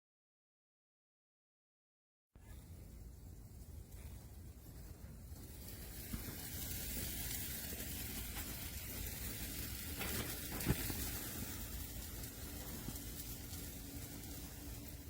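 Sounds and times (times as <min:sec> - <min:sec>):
grill sizzling: 0:02.4 - 0:15.0.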